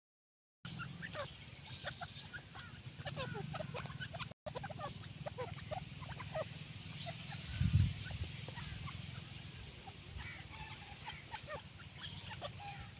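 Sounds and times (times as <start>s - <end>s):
birds chirping and clucking: 0.7s - 12.9s.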